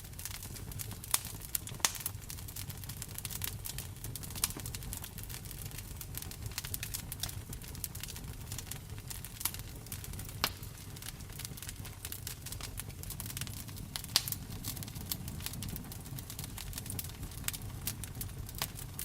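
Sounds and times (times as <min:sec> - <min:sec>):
wood fire crackling: 0:00.0 - 0:19.0
fire pops: 0:00.1 - 0:19.0.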